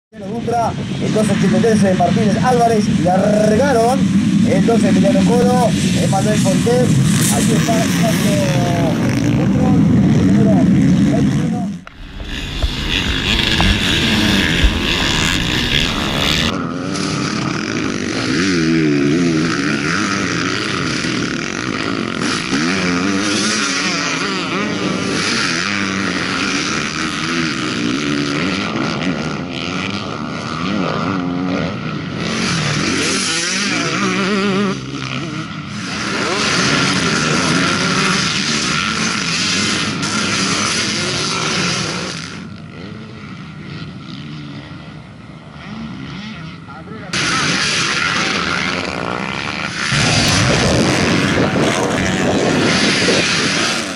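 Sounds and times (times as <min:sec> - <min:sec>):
motorcycle engines revving: 0:00.2 - 0:53.9.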